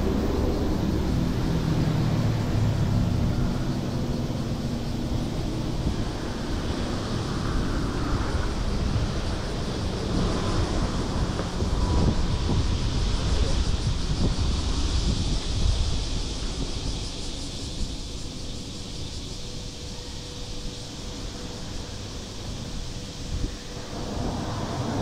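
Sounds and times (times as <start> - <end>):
steady traffic noise: 0.0 - 25.0
wind rumbling on microphone: 0.0 - 25.0.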